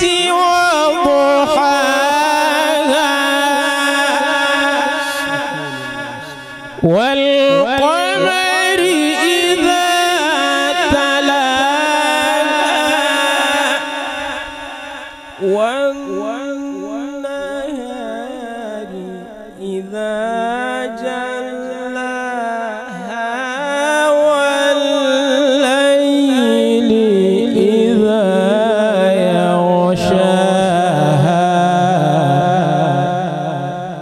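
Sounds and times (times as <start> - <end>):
man chanting melodically: 0.0 - 34.0.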